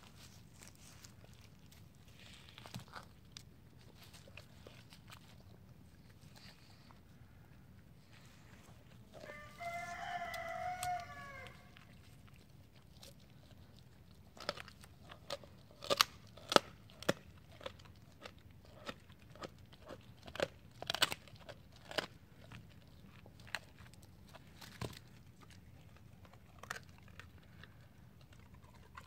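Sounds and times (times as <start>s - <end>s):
dog crunching bones: 0.0s - 7.1s, 8.8s - 29.0s.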